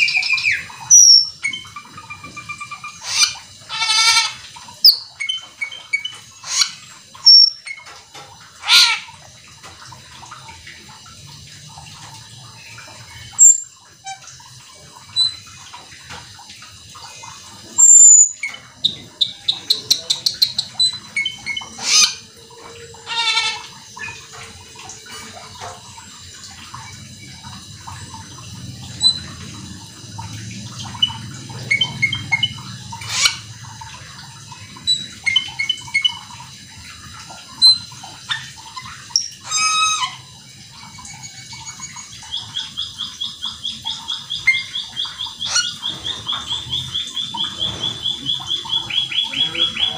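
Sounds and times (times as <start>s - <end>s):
starling harsh rasping calls: 0.0s - 9.3s, 16.9s - 49.9s.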